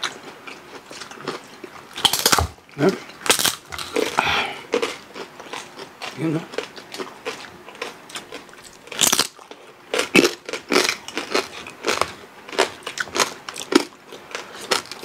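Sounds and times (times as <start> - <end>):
crunching crispy pork skin: 0.8 - 15.0.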